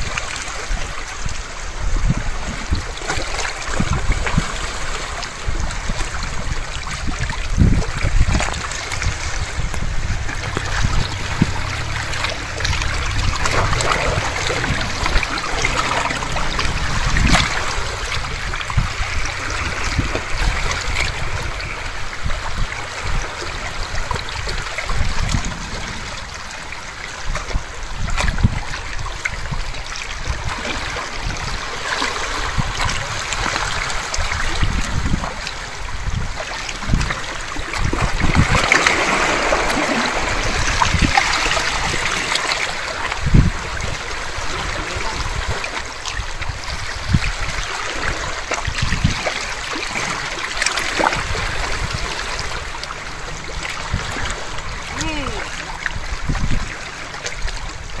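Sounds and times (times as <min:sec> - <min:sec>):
sea water splashing on rocks: 0:00.0 - 0:58.0
wind buffeting microphone: 0:00.0 - 0:58.0.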